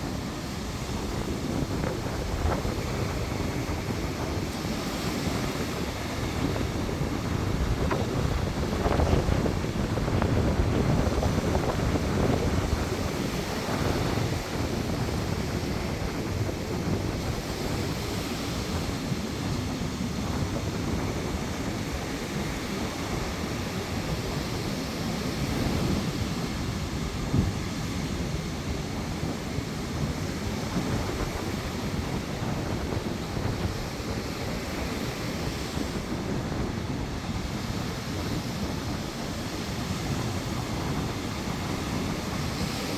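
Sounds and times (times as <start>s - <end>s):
surf breaking on shore: 0.0s - 42.9s
wind buffeting microphone: 0.0s - 42.9s.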